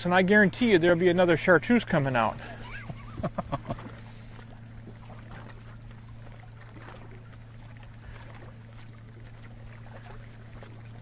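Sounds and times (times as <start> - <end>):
boat motor humming: 0.0 - 11.0
water lapping against hull: 0.0 - 11.0.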